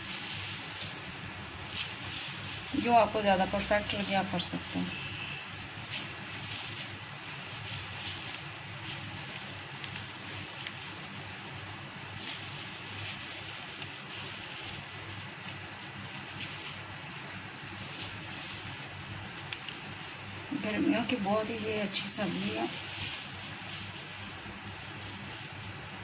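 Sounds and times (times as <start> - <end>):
background hiss: 0.0 - 26.0
gloved hands rustling and squishing: 0.0 - 26.0.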